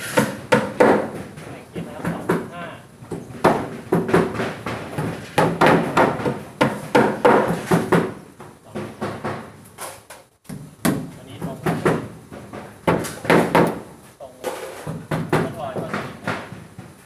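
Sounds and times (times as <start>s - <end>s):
hammer knocking nails into plywood: 0.0s - 13.9s, 14.8s - 17.0s.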